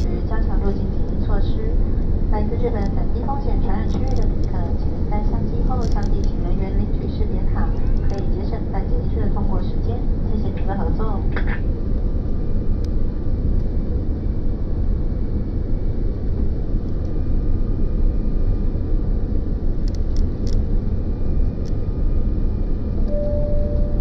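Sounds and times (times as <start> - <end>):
airliner cabin rumble: 0.0 - 24.0
faint high hum: 0.0 - 24.0.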